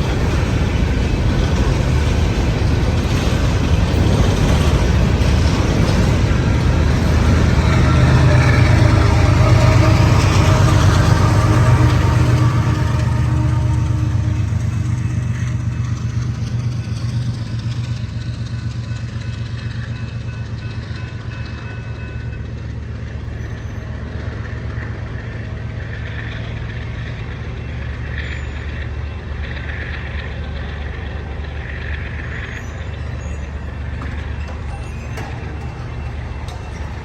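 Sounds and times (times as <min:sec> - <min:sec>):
train rolling on rails: 0:00.0 - 0:37.0.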